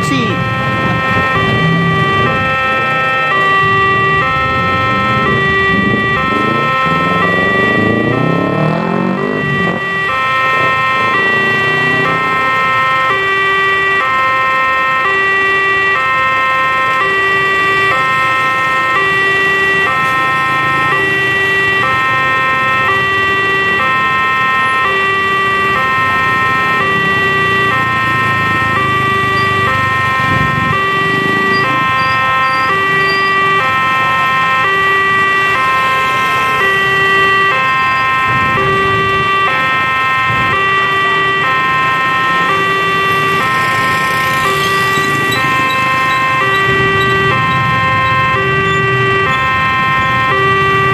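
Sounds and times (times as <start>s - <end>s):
car and motorbike engines running: 0.0s - 50.9s
two-tone crossing alarm chime: 0.0s - 50.9s.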